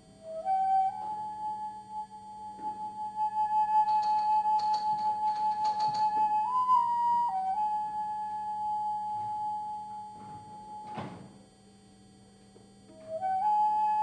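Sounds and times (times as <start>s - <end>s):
soft flute-like melody: 0.0s - 11.3s, 12.9s - 14.0s.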